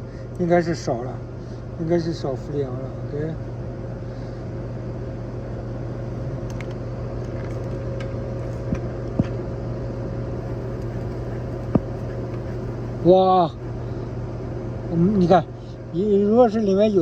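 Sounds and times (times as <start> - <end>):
air conditioning hum: 0.0 - 17.0.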